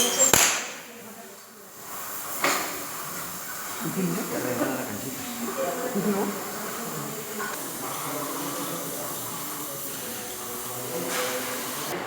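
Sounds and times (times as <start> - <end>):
faint voices: 0.0 - 12.0
welding hiss: 0.0 - 12.0.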